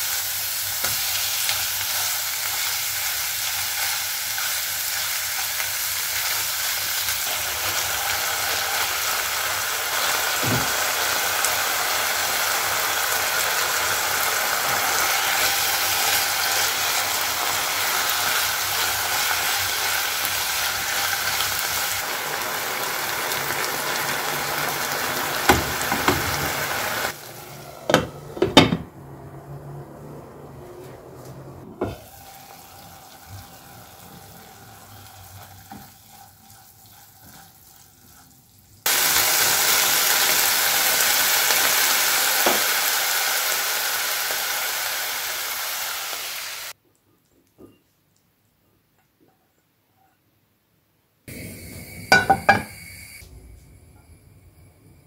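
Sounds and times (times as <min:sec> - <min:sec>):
meat and onion sizzling in pan: 0:00.0 - 0:28.1, 0:31.9 - 0:46.8, 0:51.3 - 0:53.2.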